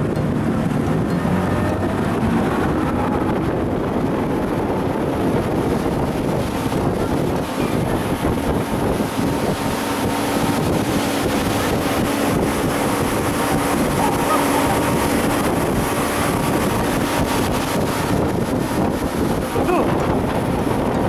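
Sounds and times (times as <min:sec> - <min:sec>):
boat motor running: 0:00.0 - 0:21.0
water rushing along hull: 0:00.0 - 0:21.0
wind buffeting microphone: 0:00.0 - 0:21.0.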